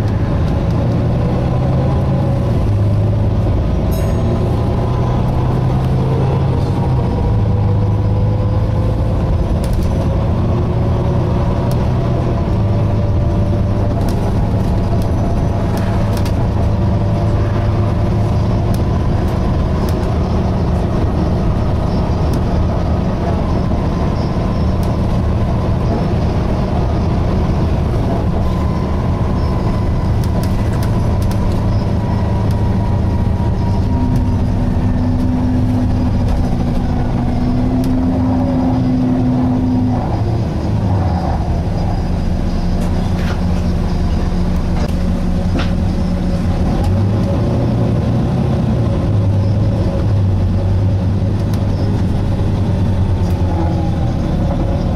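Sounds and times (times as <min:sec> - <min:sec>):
bus diesel engine drone: 0:00.0 - 0:54.9
whining tones: 0:00.0 - 0:54.9.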